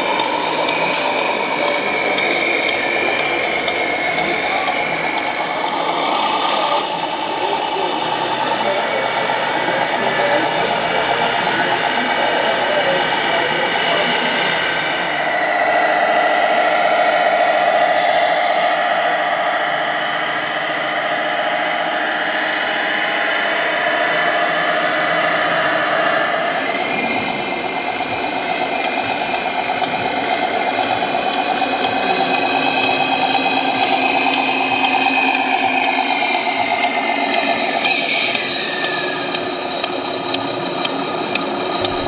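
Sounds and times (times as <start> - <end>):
model truck diesel engine sound: 0.0 - 42.0.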